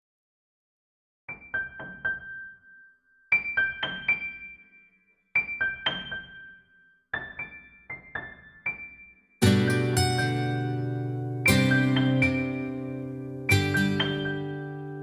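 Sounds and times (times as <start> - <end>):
bright piano motif: 1.3 - 15.0.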